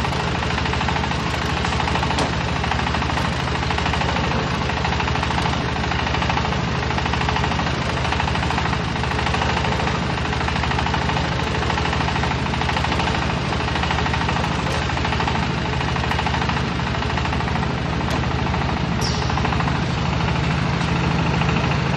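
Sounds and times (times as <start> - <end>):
baler machine running: 0.0 - 21.9.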